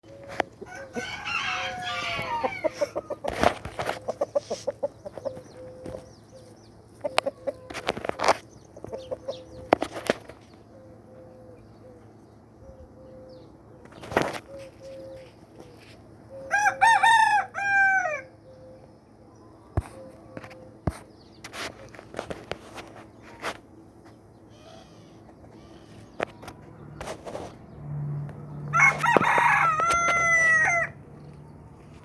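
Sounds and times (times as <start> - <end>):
chickens clucking: 0.0 - 16.5, 18.5 - 32.0.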